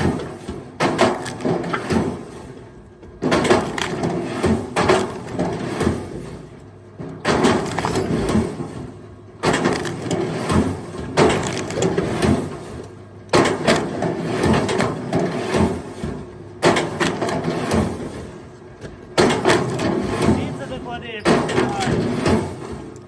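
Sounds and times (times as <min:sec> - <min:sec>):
firewood logs clattering: 0:00.0 - 0:23.0.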